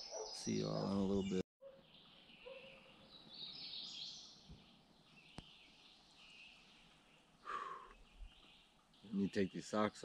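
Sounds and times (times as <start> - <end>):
birds singing: 0.0 - 10.0.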